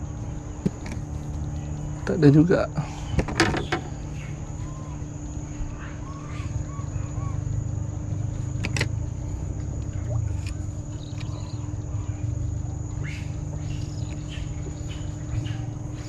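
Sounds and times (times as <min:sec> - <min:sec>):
insects chirring: 0:00.0 - 0:16.0
low continuous rumble: 0:00.0 - 0:16.0.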